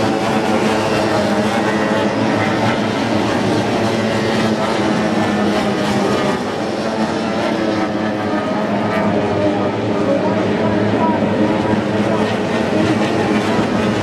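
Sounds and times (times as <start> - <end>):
racing boat engines at full throttle: 0.0 - 14.0.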